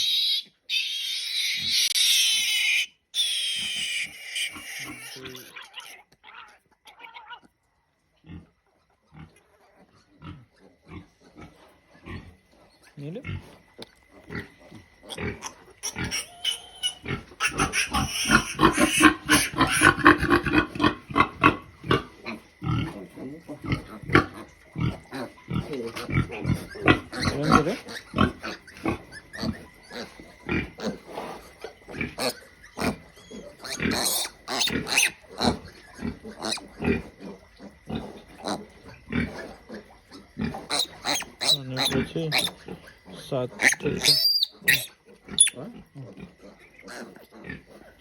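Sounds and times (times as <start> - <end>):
pig grunting and squealing: 0.0 - 7.6, 8.2 - 48.0.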